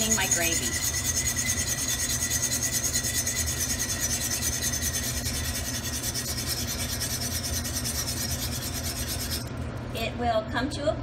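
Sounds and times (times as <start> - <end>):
wire whisk scraping a steel pan: 0.0 - 9.5.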